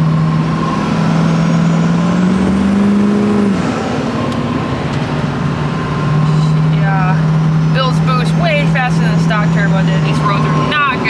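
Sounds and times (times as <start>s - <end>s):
diesel engine accelerating: 0.0s - 11.0s.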